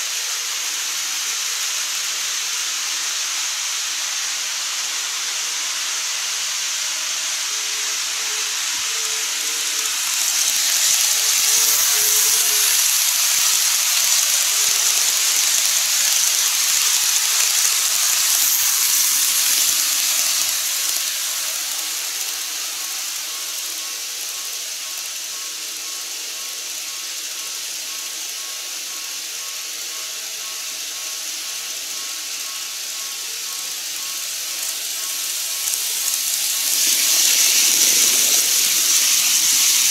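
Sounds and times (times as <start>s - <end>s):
model trains whirring: 0.0s - 39.9s.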